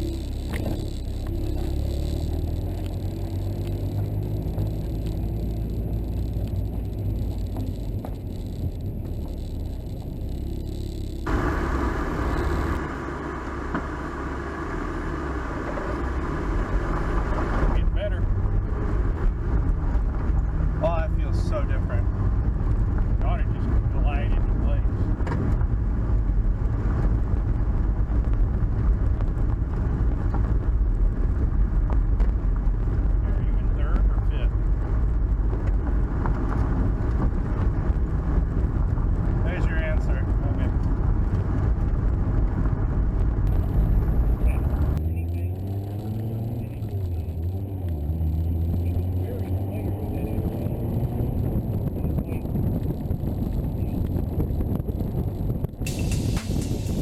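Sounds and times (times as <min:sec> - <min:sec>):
car engine humming: 0:00.0 - 0:57.0.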